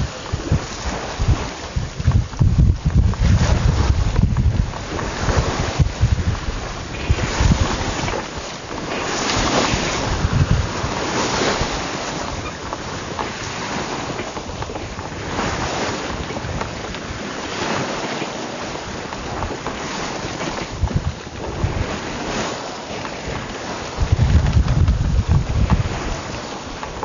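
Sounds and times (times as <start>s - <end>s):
sea water rushing past boat: 0.0s - 27.0s
wind buffeting microphone: 0.0s - 27.0s.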